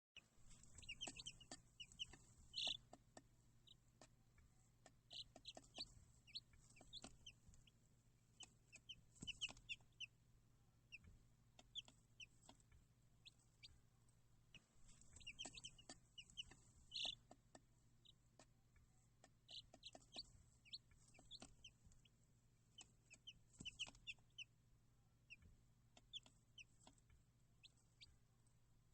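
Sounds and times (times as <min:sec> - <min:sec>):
baby chicks peeping: 0:00.2 - 0:10.2, 0:10.8 - 0:24.6, 0:25.2 - 0:28.2
faint steady low hum: 0:00.2 - 0:28.9.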